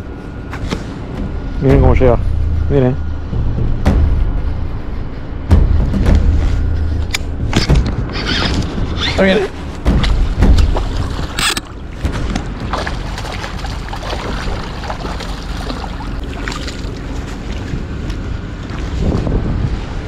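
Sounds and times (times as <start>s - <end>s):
heavy low rumble: 0.0s - 20.0s
open water: 0.0s - 20.0s
wind buffeting microphone: 0.0s - 20.0s.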